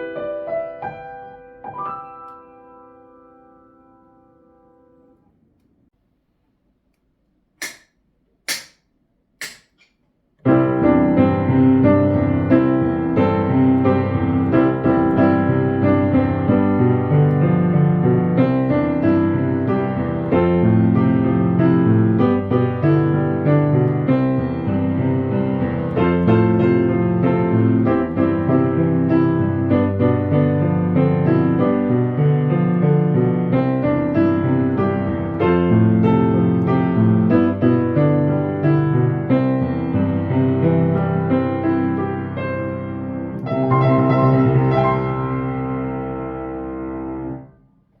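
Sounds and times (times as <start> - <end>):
solo piano playing: 0.0 - 5.2, 10.4 - 47.6.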